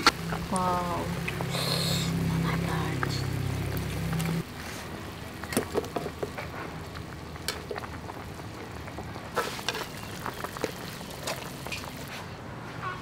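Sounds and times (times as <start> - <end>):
water boiling in a wok: 0.0 - 12.4.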